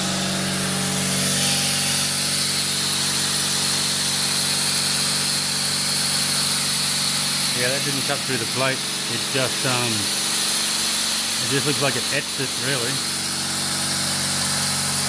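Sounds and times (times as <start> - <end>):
plasma cutter hissing: 0.0 - 15.0.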